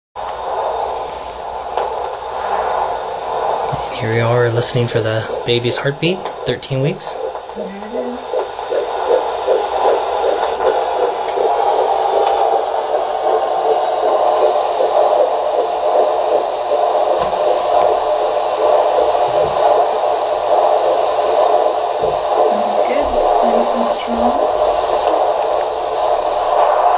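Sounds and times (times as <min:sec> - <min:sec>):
fast fetal heartbeat pulsing: 0:00.2 - 0:26.9
steady hiss: 0:00.2 - 0:26.9.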